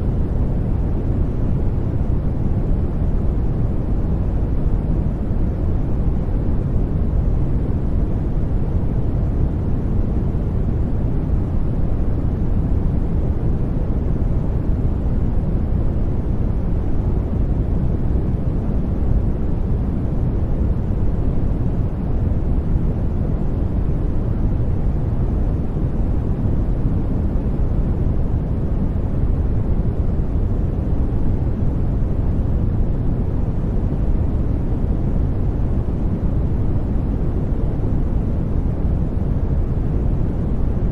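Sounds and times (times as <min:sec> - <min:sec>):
deep rumbly noise hiss: 0:00.0 - 0:40.9.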